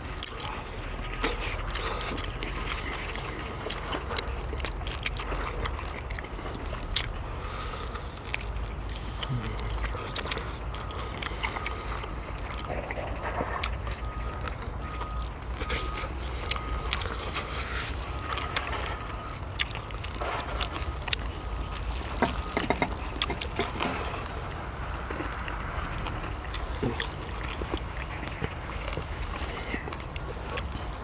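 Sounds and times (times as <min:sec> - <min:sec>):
chewing and slurping: 0:00.0 - 0:31.0
steady low rumble: 0:00.0 - 0:31.0.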